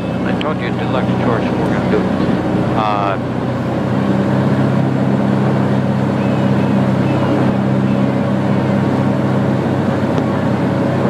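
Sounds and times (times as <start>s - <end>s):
light aircraft engine drone: 0.0s - 11.0s.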